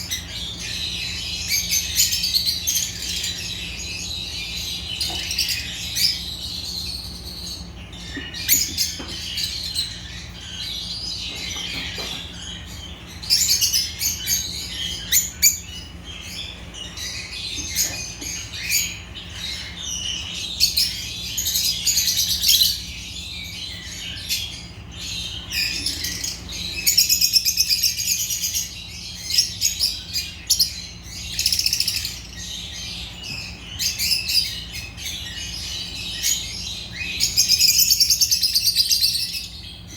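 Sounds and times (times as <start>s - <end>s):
lovebirds chirping and trilling: 0.0s - 39.9s.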